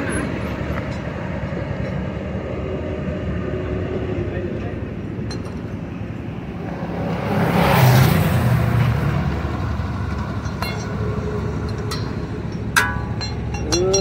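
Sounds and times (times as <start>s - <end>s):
vehicle passing close: 0.0s - 12.8s
traffic rumble: 0.0s - 14.0s.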